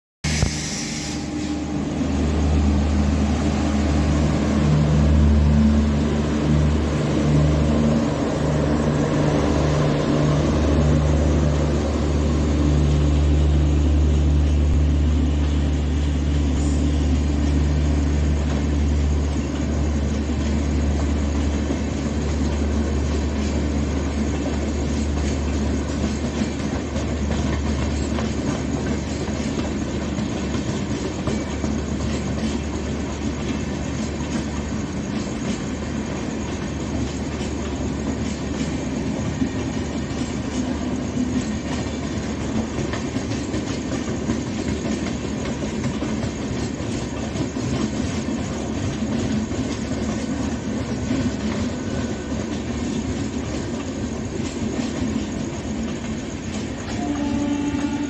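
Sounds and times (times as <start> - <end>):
train low hum: 0.2 - 58.0
train wheels rumbling on rails: 0.3 - 58.0.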